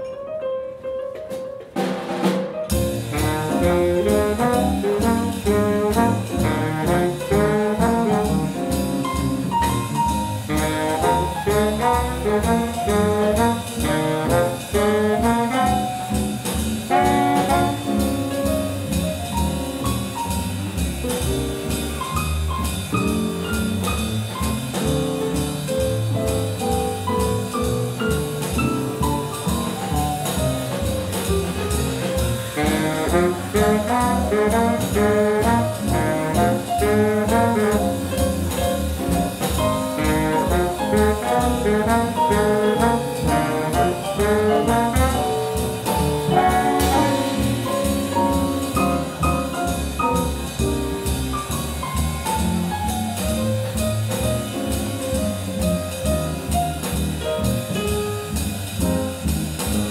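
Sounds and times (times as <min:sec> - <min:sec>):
jazz big band playing swing: 0:00.0 - 0:59.9.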